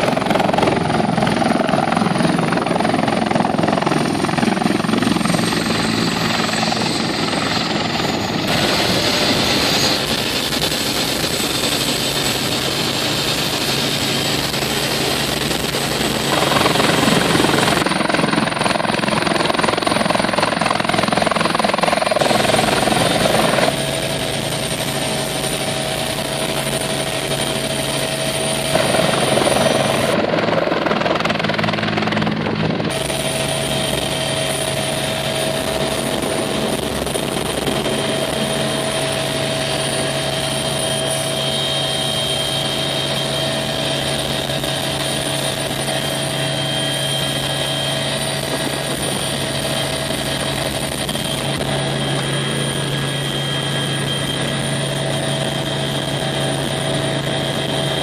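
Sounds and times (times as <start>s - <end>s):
helicopter drone from inside cabin: 0.0s - 58.0s
high turbine whine: 0.0s - 58.0s.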